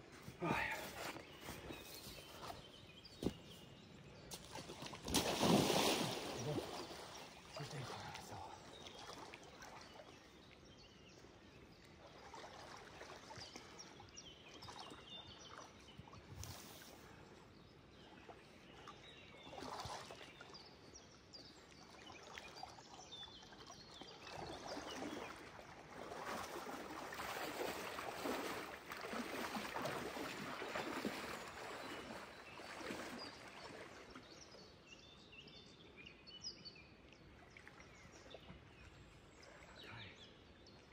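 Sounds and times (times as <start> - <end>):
person wading through water: 0.1 - 34.8.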